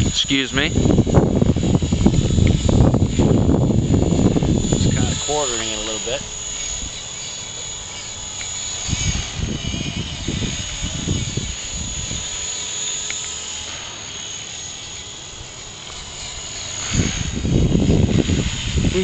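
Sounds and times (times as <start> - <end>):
wind buffeting microphone: 0.0 - 13.9, 14.8 - 19.0
rc helicopter motor whine: 0.0 - 19.0.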